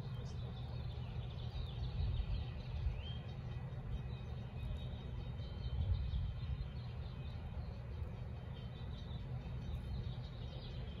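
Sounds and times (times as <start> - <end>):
low outdoor rumble: 0.0 - 11.0
small birds chirping: 0.0 - 11.0.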